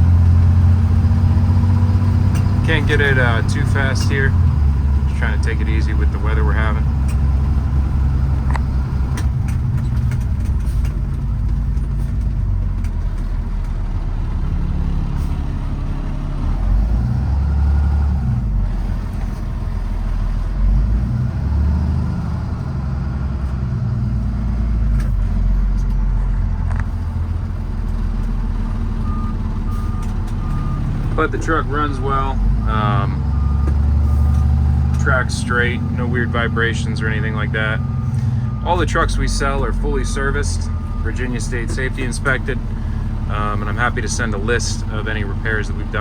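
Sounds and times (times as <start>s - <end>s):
road noise: 0.0s - 46.0s
truck diesel engine running: 0.0s - 46.0s.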